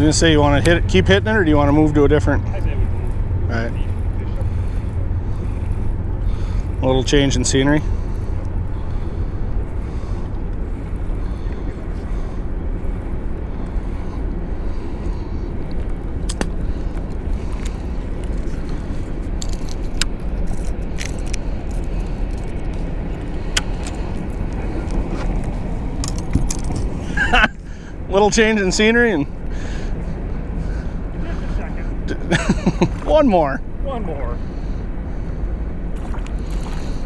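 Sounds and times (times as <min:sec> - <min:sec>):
low rumble: 0:00.0 - 0:37.0.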